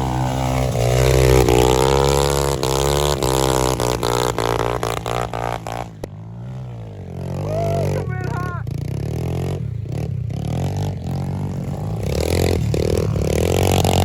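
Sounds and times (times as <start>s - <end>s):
small motorcycle engine revving: 0.0s - 14.0s.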